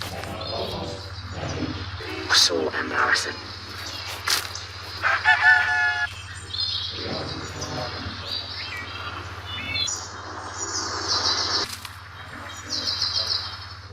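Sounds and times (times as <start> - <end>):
steady low hum: 0.0 - 13.9
high chirping bird-like calls: 0.4 - 13.9.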